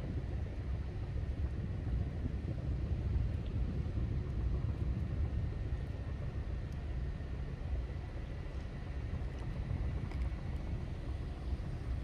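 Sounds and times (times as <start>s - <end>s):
sea: 0.0s - 12.0s
wind: 0.0s - 12.0s.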